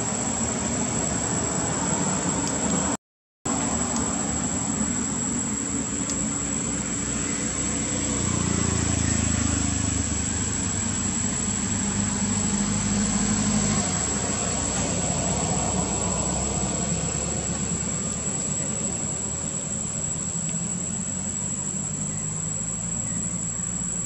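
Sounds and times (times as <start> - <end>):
high thin whine: 0.0 - 24.0
low engine rumble: 0.0 - 24.0.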